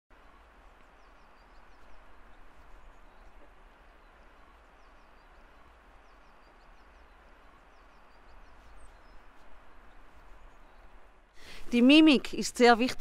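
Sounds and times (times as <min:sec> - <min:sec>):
faint outdoor background noise: 0:00.1 - 0:13.0
small birds chirping: 0:00.1 - 0:13.0.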